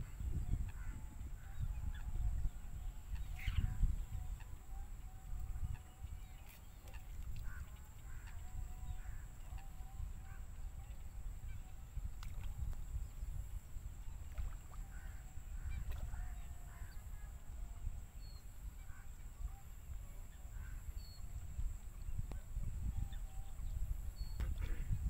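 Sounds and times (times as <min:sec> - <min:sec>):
faint bird calls and chirps: 0:00.0 - 0:25.0
wind rumbling on microphone: 0:00.0 - 0:25.0.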